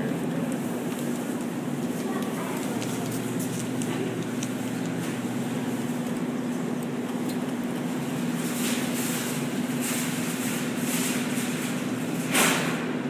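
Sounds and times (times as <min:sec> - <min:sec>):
claw machine mechanical hum: 0:00.0 - 0:13.0.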